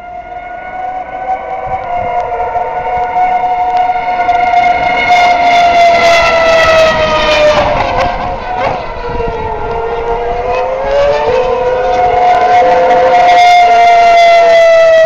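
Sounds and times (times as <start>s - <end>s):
racing car engines wailing: 0.0s - 15.0s.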